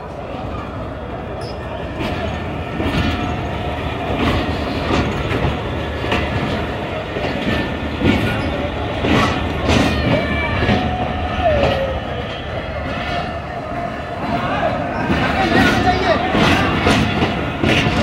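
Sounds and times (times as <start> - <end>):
train wheels rumbling: 0.0 - 18.0
wheels clacking over rail joints: 1.3 - 18.0.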